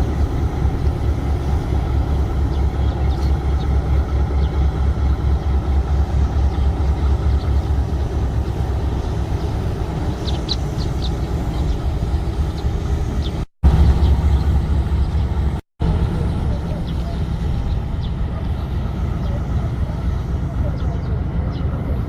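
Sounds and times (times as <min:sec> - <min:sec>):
train engine rumbling: 0:00.0 - 0:22.0.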